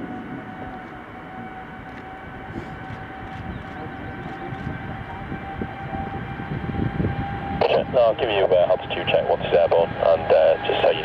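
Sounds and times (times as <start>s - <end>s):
jet engines whining: 0.0s - 11.0s
low engine rumble: 0.0s - 11.0s.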